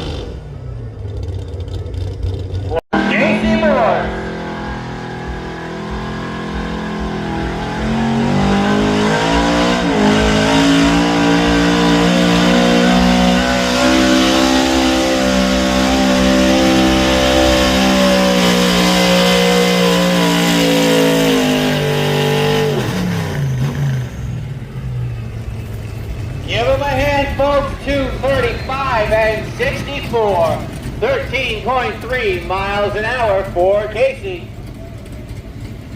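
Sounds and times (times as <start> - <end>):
truck engine at full throttle: 0.0 - 35.9.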